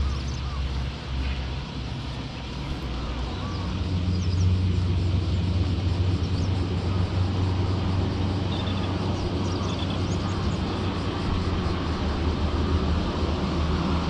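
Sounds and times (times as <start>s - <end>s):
motor droning: 0.0s - 14.0s.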